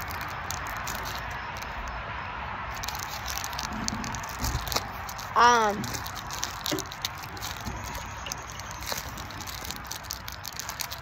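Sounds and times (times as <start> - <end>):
plastic wrapper crinkling: 0.0 - 2.0, 2.7 - 11.0.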